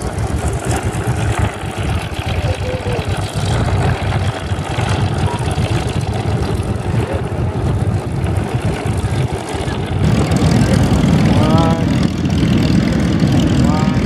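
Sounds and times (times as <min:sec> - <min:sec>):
propeller low pulsing: 0:00.0 - 0:14.0
radial aircraft engine running: 0:00.0 - 0:14.0.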